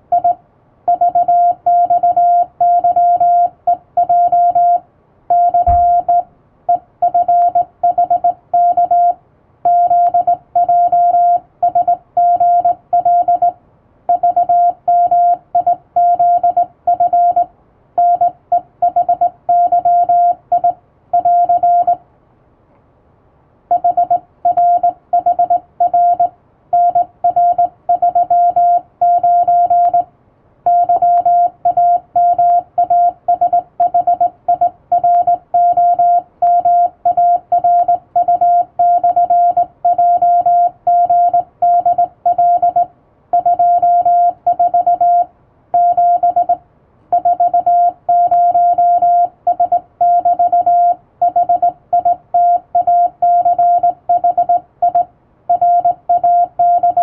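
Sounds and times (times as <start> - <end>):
morse code beeps: 0.1 - 22.0, 23.7 - 30.1, 30.7 - 57.0.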